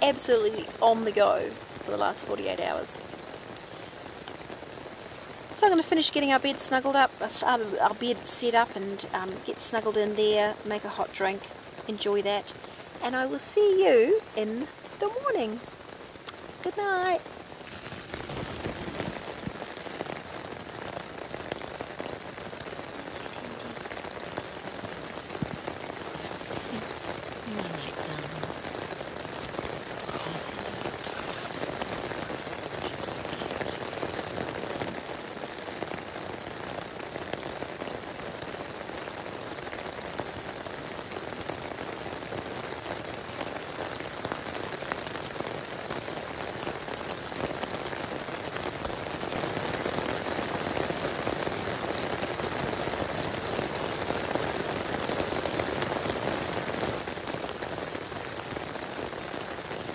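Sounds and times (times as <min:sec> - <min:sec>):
rain on tent fabric: 0:00.0 - 0:59.9.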